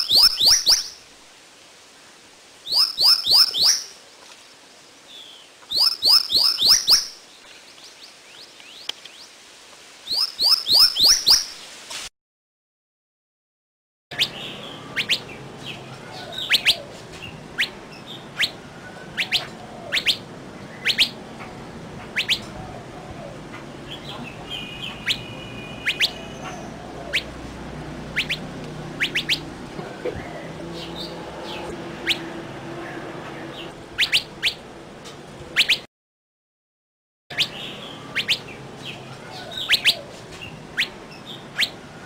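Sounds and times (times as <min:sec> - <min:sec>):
small birds chirping: 0:00.0 - 0:01.0, 0:01.9 - 0:09.4, 0:10.0 - 0:11.6, 0:14.1 - 0:27.4, 0:28.0 - 0:34.7, 0:35.5 - 0:35.9, 0:37.3 - 0:42.0.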